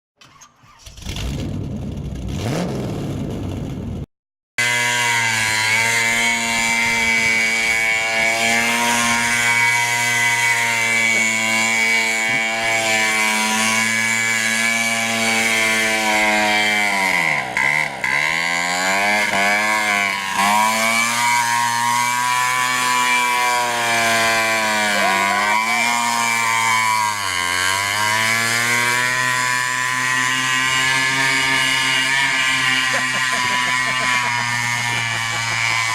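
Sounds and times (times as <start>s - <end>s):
atv engine running: 4.6s - 35.9s.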